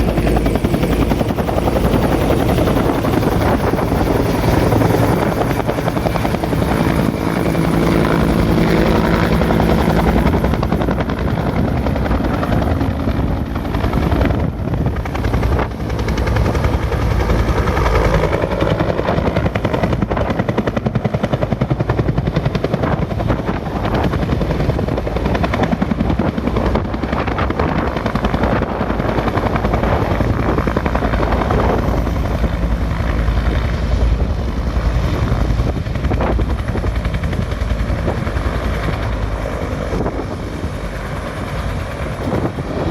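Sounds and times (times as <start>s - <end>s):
helicopter engine whine: 0.0s - 42.9s
helicopter rotor beating: 0.0s - 42.9s.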